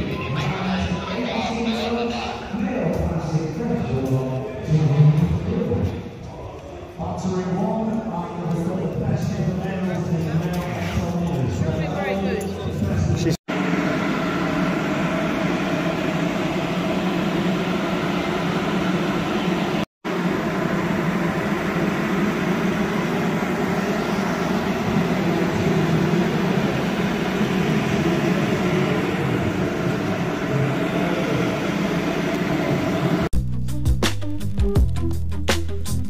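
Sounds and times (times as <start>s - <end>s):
ventilation fan running: 0.0s - 33.3s.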